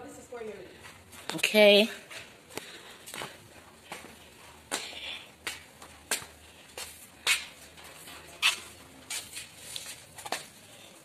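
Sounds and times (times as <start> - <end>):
footsteps on concrete: 0.8 - 7.8, 8.4 - 10.6.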